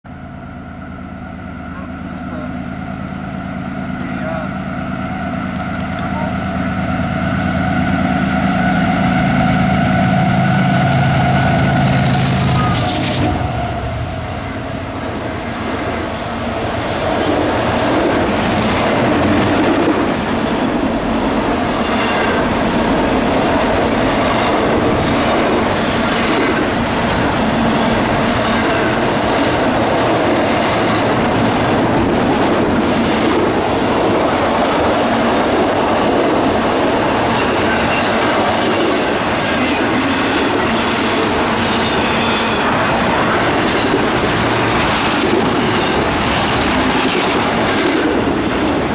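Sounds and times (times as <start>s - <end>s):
freight train wheels rumbling on rail: 0.1s - 48.9s.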